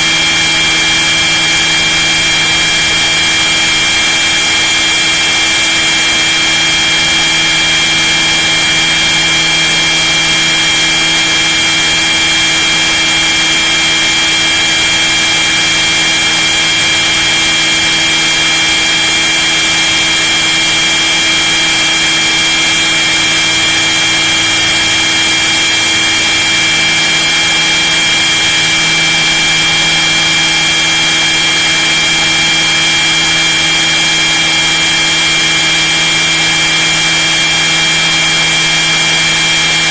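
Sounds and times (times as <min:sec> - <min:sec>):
model helicopter motor whine: 0:00.0 - 0:39.9.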